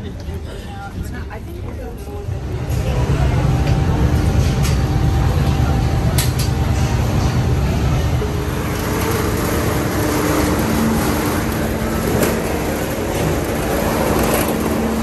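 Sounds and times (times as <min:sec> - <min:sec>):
rumble inside ferry vehicle deck: 0:00.0 - 0:15.0
low steady hum: 0:01.8 - 0:15.0.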